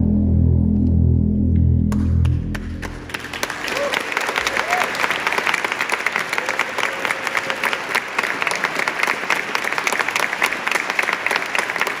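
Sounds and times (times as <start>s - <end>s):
audience clapping: 1.9s - 12.0s.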